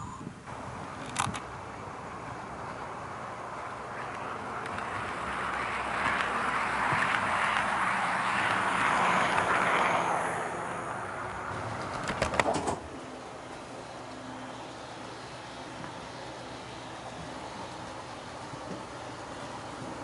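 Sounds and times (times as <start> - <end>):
model train rumbling on track: 0.5 - 20.0.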